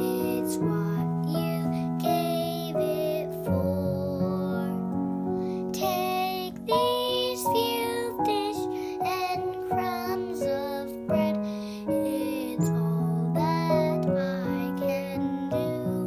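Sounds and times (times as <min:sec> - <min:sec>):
boy singing: 0:00.0 - 0:04.9, 0:05.8 - 0:16.0
piano chords: 0:00.0 - 0:16.0.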